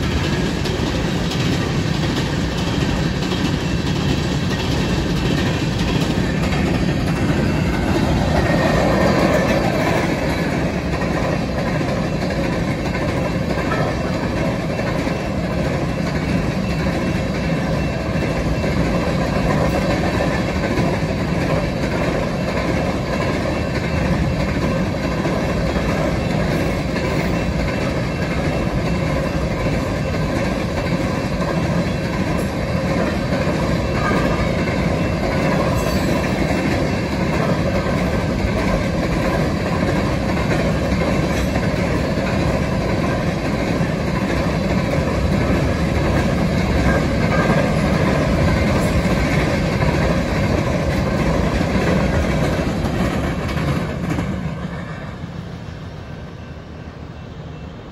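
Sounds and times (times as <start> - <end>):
steel train wheels on rails: 0.0 - 57.9.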